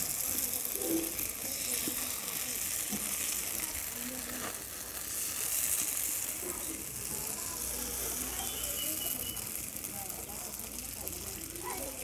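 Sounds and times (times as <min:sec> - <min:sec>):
batter sizzling in hot oil: 0:00.0 - 0:12.0.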